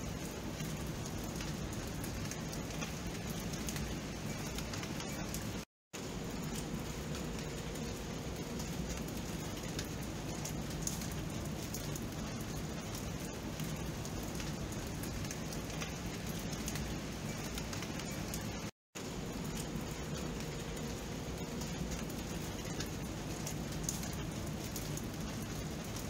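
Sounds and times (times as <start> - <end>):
raindrops ticking: 0.0 - 26.0
steady rain falling: 0.0 - 26.0.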